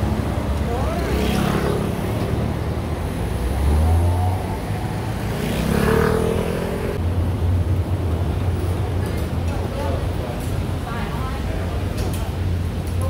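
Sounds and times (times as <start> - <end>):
cars passing: 0.0 - 12.8
steady low traffic rumble: 0.0 - 13.0.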